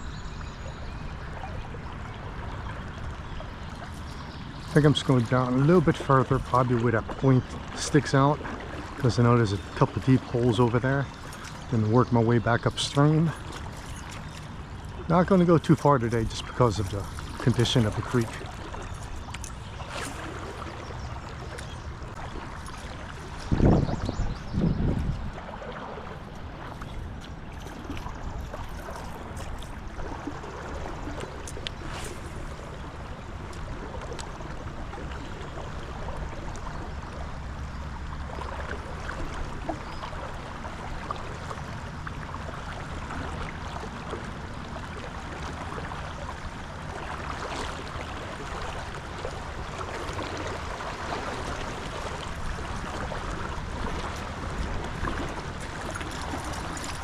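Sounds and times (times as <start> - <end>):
creek water rushing: 1.0 - 57.0.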